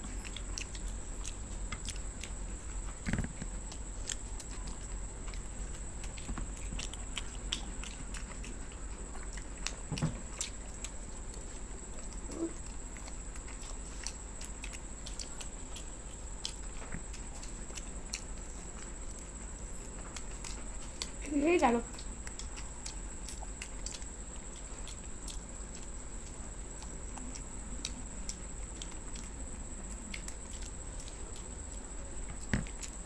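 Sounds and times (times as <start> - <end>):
people chewing toast: 0.0 - 33.0.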